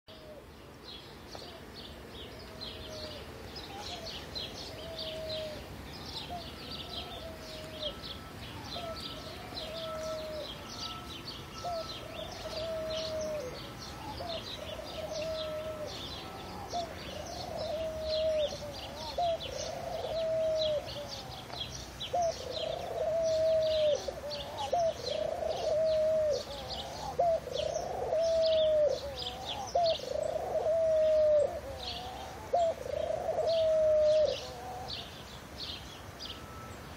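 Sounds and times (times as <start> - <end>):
pigeon cooing: 2.5 - 35.0.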